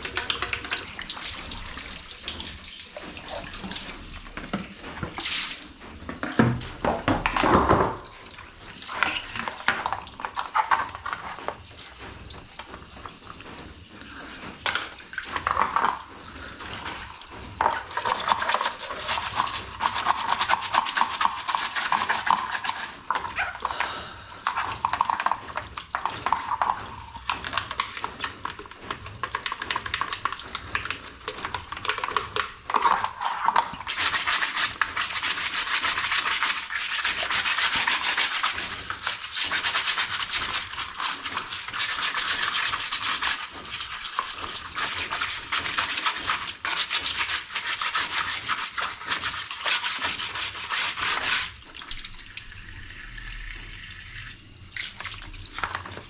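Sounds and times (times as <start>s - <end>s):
brush scrubbing: 0.0s - 7.2s, 8.0s - 52.1s.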